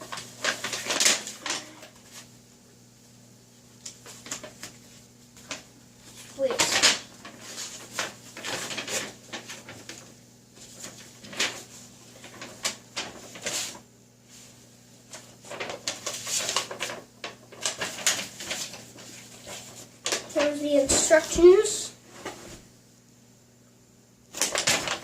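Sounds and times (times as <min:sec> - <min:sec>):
paper and packaging rustling: 0:00.0 - 0:02.3, 0:03.7 - 0:22.6, 0:24.3 - 0:25.0.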